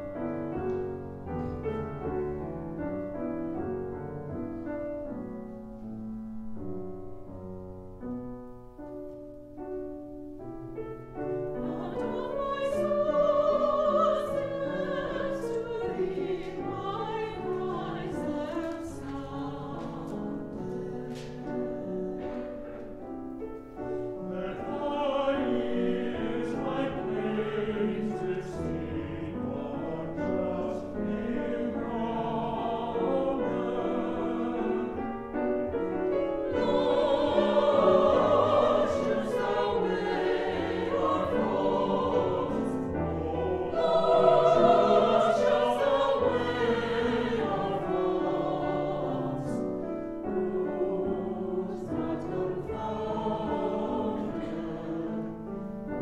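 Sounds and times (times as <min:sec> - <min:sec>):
church choir singing: 0:00.0 - 0:08.1, 0:08.7 - 0:56.0.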